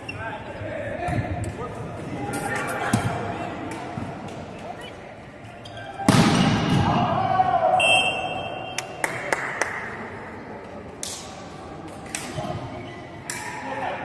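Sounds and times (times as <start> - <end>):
players' voices: 0.0 - 14.0.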